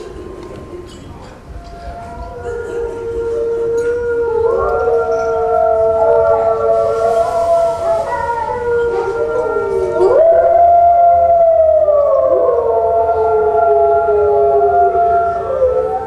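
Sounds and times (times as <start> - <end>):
wolf howls over sound system: 0.0 - 16.0.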